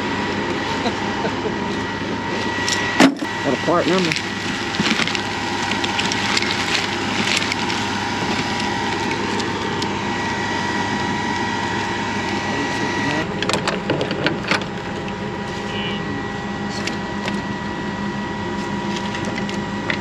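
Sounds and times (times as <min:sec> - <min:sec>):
machine high whine: 0:00.0 - 0:20.0.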